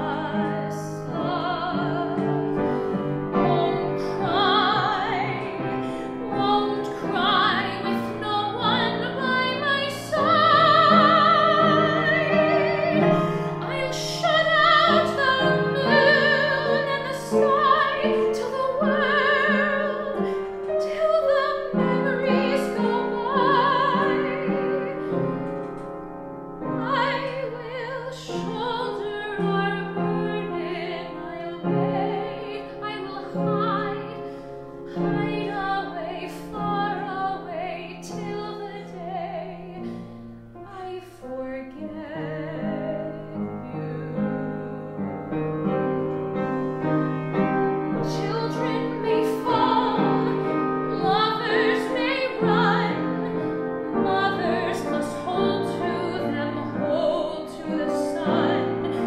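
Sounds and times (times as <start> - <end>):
woman singing a ballad: 0.0 - 25.7, 26.6 - 40.0, 40.6 - 46.0, 47.0 - 59.0.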